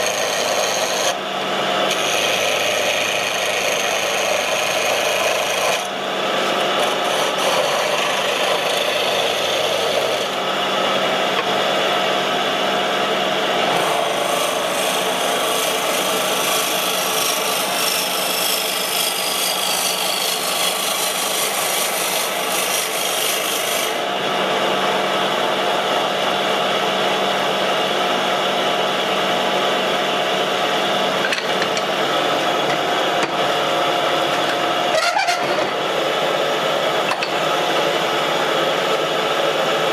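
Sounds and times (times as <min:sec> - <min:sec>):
wood being cut on a lathe: 0:00.0 - 0:12.0, 0:12.9 - 0:26.5, 0:27.4 - 0:39.9
lathe motor hum: 0:00.0 - 0:39.9.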